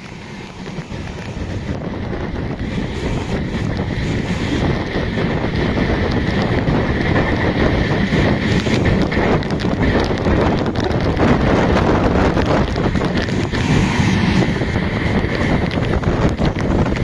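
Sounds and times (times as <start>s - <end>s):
passenger train running: 0.0s - 17.0s
wind buffeting microphone: 0.0s - 17.0s.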